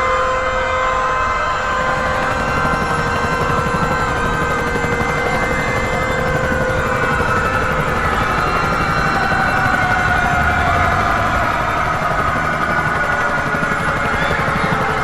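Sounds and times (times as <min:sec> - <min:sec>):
helicopter rotor noise: 0:00.0 - 0:15.0
sirens wailing: 0:00.0 - 0:15.0.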